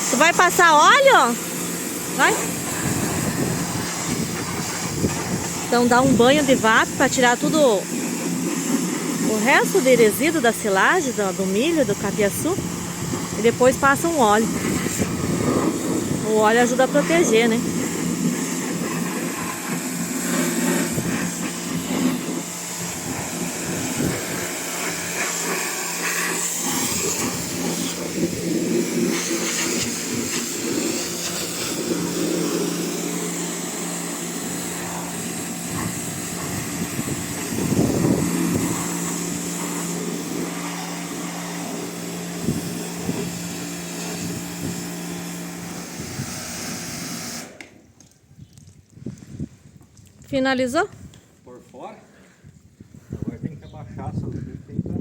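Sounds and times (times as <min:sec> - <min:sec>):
high-pressure water jet hissing: 0:00.0 - 0:47.7
pressure washer motor humming: 0:00.0 - 0:47.8.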